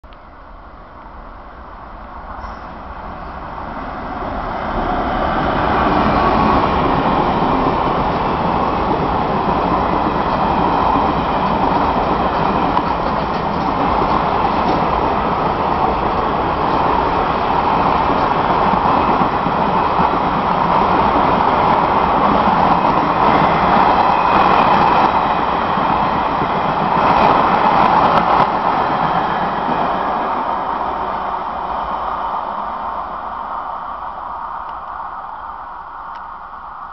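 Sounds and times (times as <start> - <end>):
train running on rails: 0.2 - 36.9.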